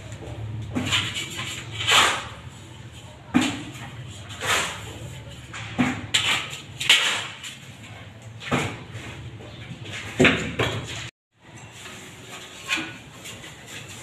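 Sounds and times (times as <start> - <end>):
tiling tools scraping mortar: 0.0 - 14.0.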